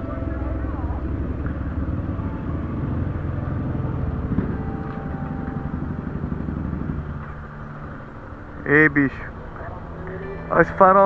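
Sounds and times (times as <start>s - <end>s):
motorcycle engines at low revs: 0.0s - 11.0s.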